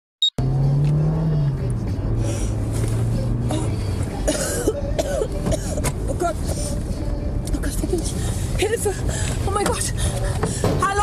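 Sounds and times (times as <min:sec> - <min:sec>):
road noise: 0:00.2 - 0:11.0
car engine: 0:00.3 - 0:11.0.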